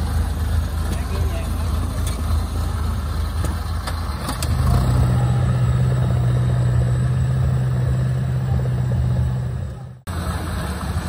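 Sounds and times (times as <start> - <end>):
combine harvester diesel engine drone: 0.0 - 11.0.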